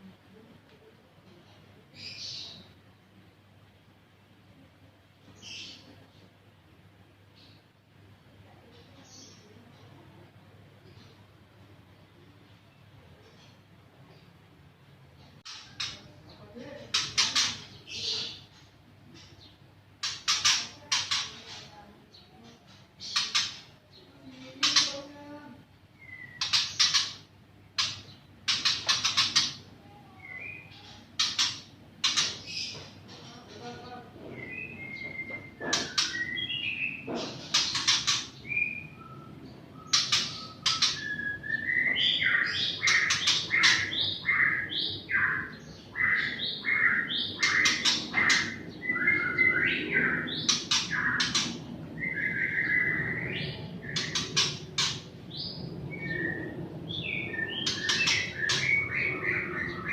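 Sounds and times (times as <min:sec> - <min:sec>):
songbirds chirping and whistling: 0:01.9 - 0:02.8, 0:05.2 - 0:59.9.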